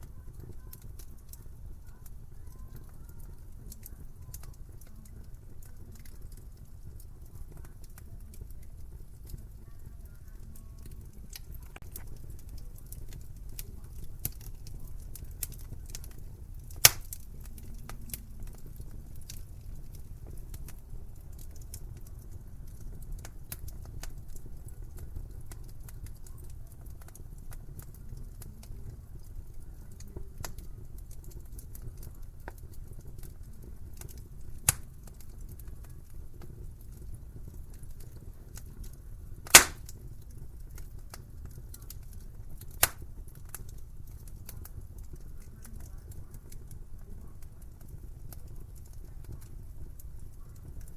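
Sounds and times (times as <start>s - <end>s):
wood fire crackling: 0.0s - 50.9s
loud fire pops: 3.7s - 50.9s.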